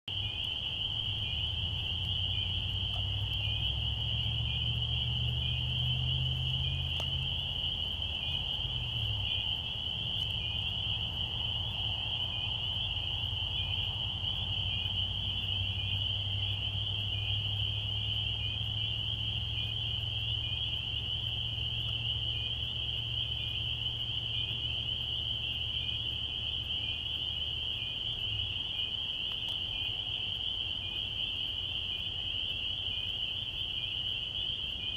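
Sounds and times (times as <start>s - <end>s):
frogs trilling: 0.1s - 34.9s.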